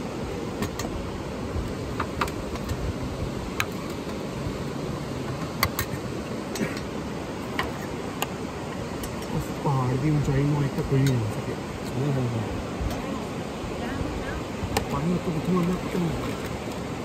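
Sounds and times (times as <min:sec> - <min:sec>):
steady rushing background noise: 0:00.0 - 0:17.0.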